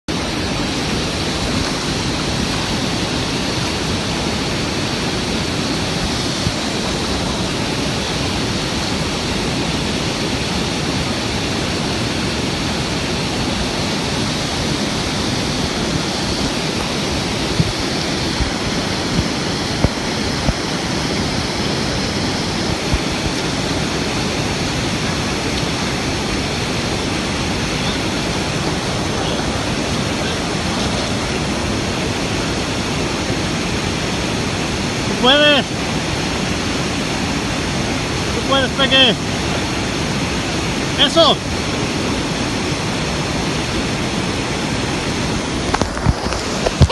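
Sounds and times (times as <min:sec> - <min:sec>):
waterfall rushing: 0:00.1 - 0:46.9.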